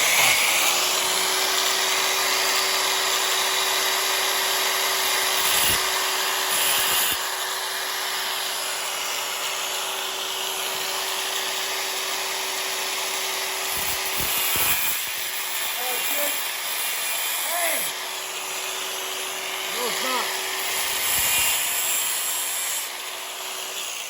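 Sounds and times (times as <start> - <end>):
angle grinder cutting metal: 0.0 - 24.0.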